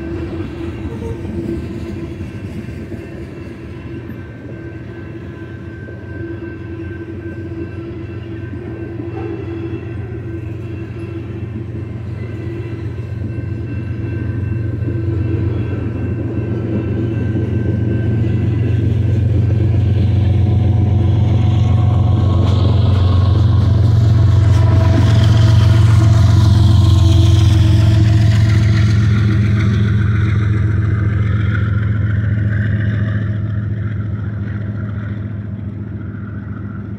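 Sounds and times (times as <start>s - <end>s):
diesel locomotive passing: 0.0s - 36.9s
freight train cars rolling: 0.0s - 36.9s.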